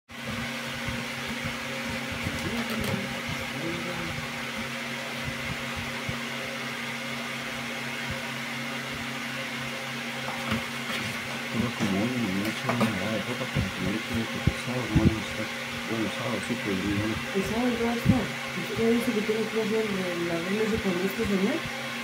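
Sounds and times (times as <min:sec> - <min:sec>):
motor humming: 0:00.1 - 0:22.0.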